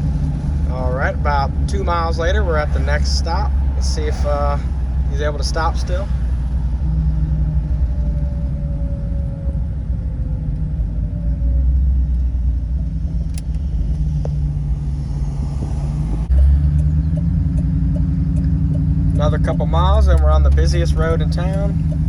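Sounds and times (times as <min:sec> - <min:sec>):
road rumble: 0:00.0 - 0:22.0
vehicle engine: 0:00.0 - 0:22.0.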